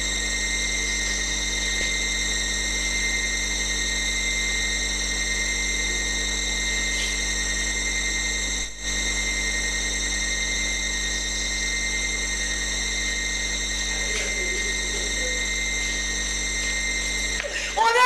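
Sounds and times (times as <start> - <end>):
electrical hum and hiss: 0.0 - 18.0
high whining tones: 0.0 - 18.0.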